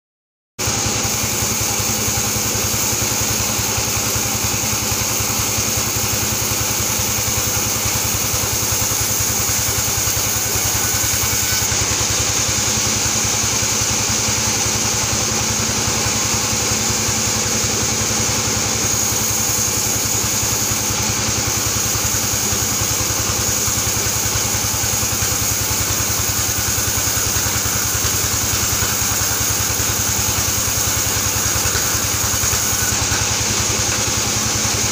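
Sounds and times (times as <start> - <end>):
band sawmill whining drone: 0.6 - 34.9.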